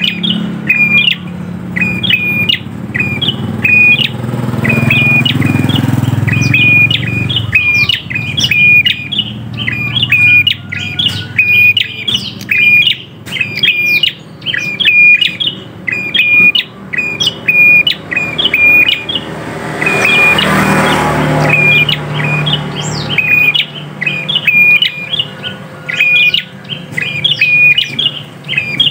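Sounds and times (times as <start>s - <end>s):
bird chirping rapidly: 0.0s - 28.9s.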